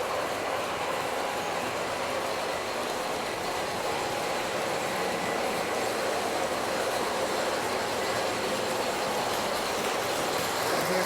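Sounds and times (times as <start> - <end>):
model trains running on track: 0.0 - 11.0.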